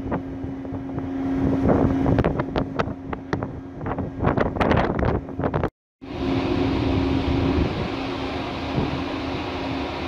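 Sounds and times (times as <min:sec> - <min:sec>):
low machinery hum: 0:00.0 - 0:10.0
wind buffeting microphone: 0:00.0 - 0:10.0.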